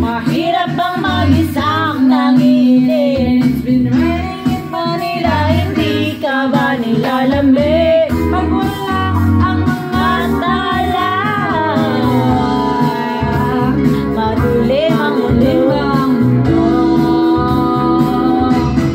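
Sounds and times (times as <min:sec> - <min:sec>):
instrumental backing: 0:00.0 - 0:18.9
woman singing a pop ballad: 0:00.0 - 0:18.9.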